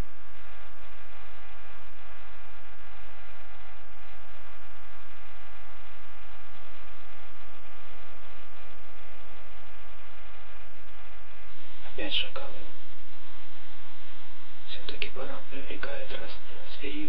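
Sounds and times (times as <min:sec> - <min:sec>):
electronic hum and hiss: 0:00.0 - 0:17.0.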